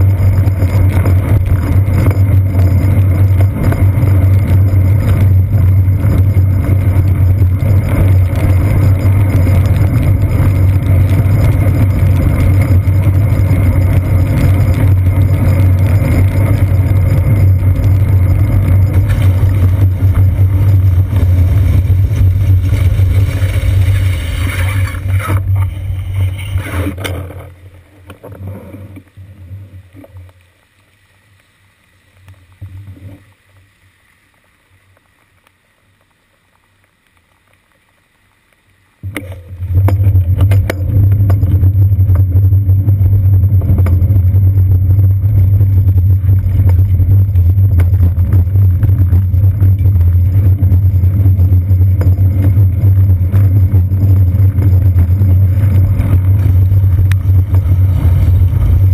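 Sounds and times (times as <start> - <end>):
road vibration rumble: 0.0 - 30.3, 39.0 - 58.9.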